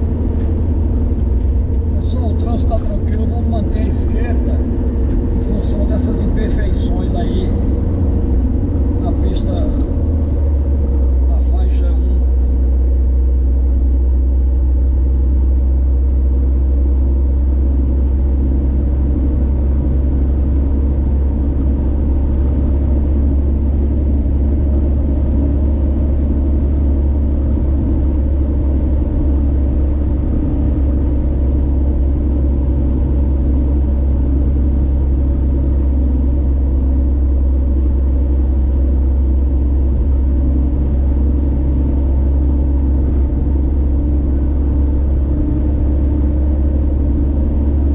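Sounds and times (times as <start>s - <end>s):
car cruising on highway: 0.0s - 47.9s.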